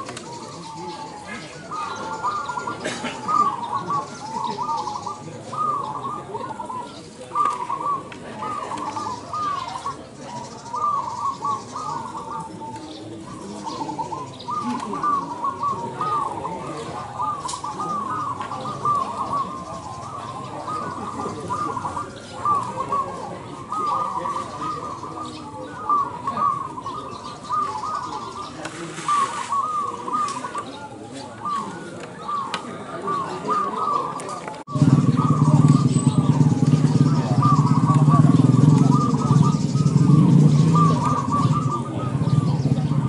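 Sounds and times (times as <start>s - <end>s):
doves cooing: 0.0s - 43.0s.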